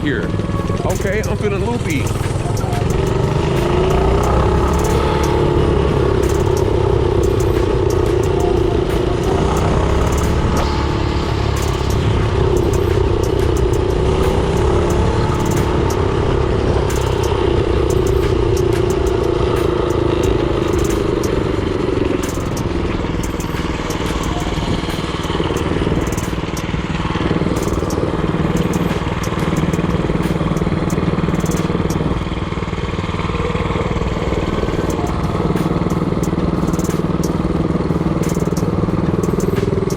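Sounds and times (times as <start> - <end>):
sharp ticks and rattles: 0.0 - 32.5, 33.6 - 39.9
small engine running: 0.0 - 39.9.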